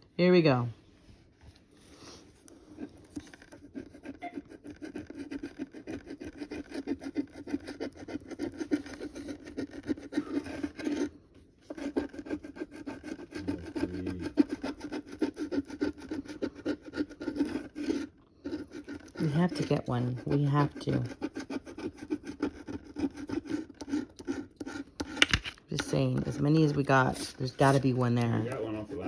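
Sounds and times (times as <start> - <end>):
scratching lottery ticket: 2.0 - 29.0.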